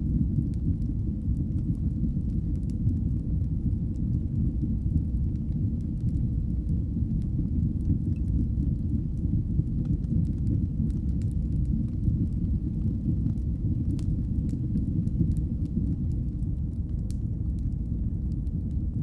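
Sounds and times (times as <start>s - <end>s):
fire crackles and pops: 0.0s - 19.0s
fire rumbling in fireplace: 0.0s - 19.0s.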